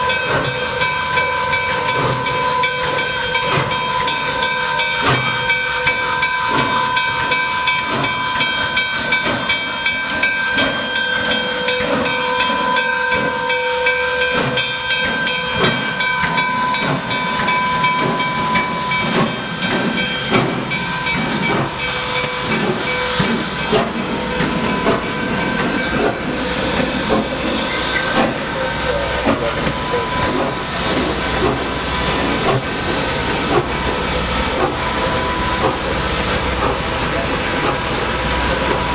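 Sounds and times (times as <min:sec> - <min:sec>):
steam locomotive hissing steam: 0:00.0 - 0:38.9.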